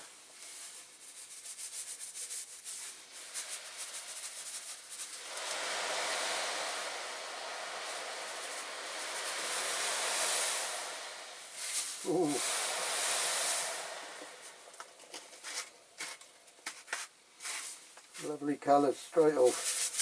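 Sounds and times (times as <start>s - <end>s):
steady fizzing hiss: 0.0s - 20.0s.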